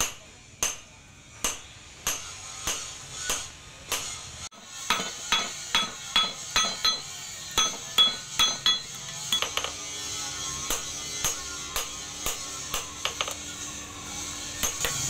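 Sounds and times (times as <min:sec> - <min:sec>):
hammer striking steel on anvil: 0:00.0 - 0:09.9, 0:10.6 - 0:13.6, 0:14.6 - 0:15.0.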